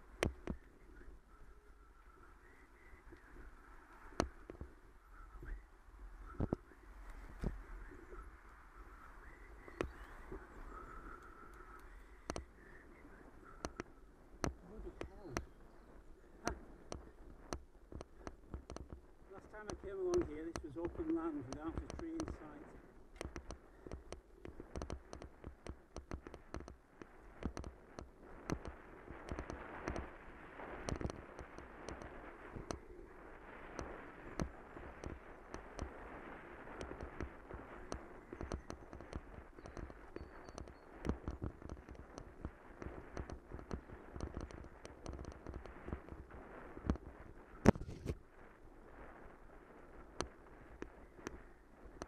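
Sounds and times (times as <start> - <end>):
steady rushing noise: 0.0 - 52.0.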